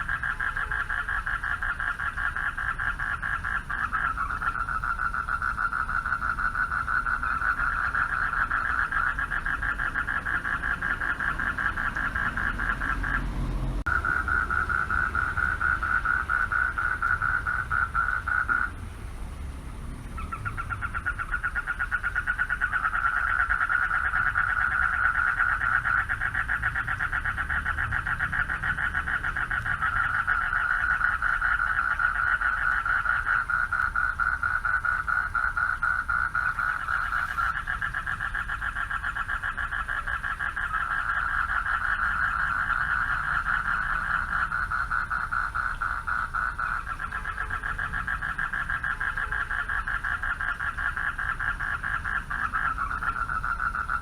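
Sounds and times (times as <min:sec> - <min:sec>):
frogs calling in pulsing trills: 0:00.0 - 0:54.0.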